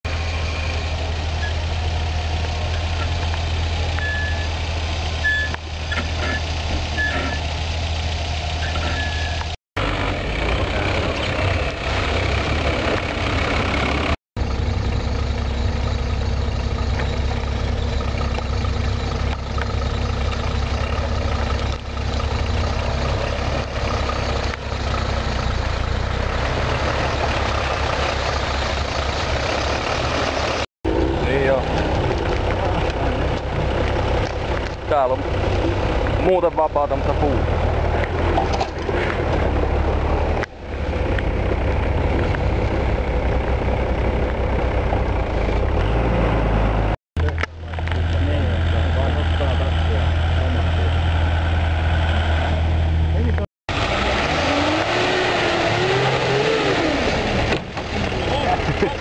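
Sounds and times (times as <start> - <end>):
engine running at low revs: 0.1 - 59.0.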